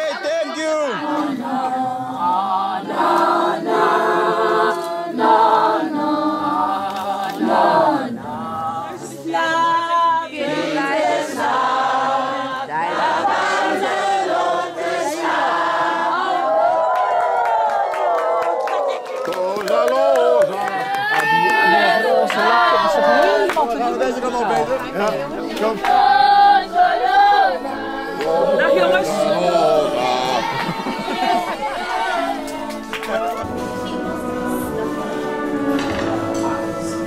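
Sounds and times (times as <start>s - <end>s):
group of voices chanting: 0.0s - 18.2s, 20.0s - 37.0s.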